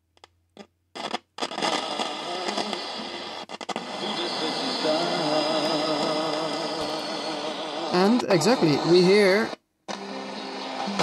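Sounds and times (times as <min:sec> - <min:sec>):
radio broadcast through small loudspeaker: 0:01.0 - 0:11.0.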